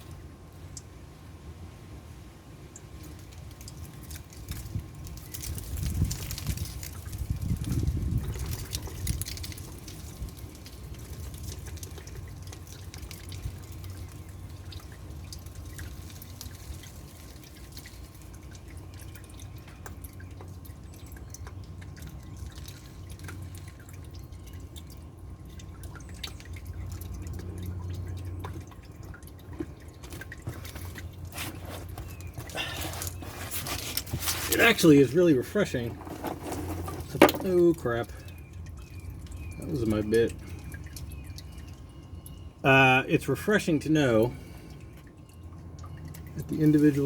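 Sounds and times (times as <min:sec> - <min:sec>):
oil dripping into drain pan: 0:00.0 - 0:01.7, 0:02.5 - 0:47.0.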